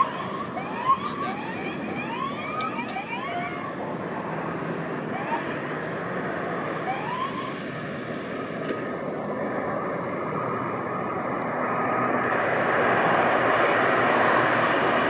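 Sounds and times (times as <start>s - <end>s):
airliner engines roaring: 0.0s - 15.0s.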